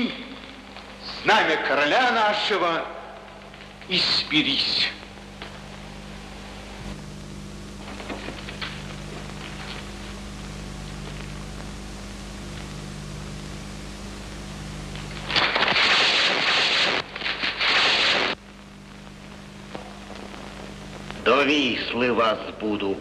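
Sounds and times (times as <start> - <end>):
film soundtrack hum and hiss: 0.0 - 23.0.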